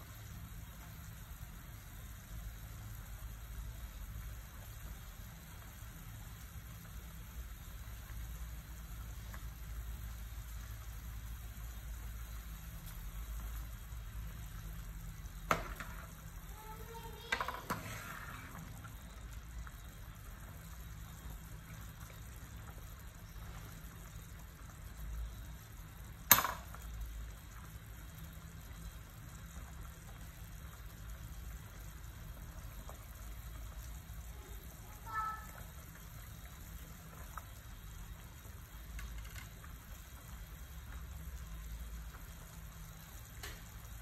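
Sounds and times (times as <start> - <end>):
soup bubbling in a pot: 0.0 - 44.0.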